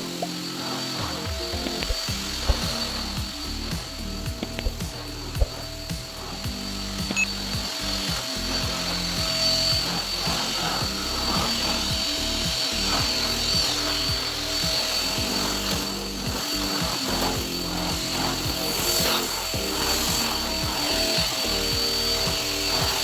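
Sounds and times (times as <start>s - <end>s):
background music: 0.0s - 23.0s
vacuum cleaner whining: 0.0s - 23.0s.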